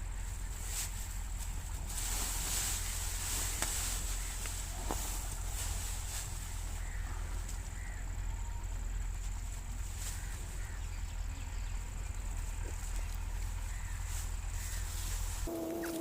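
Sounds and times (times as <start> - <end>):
faint bird chirps: 2.6 - 16.0.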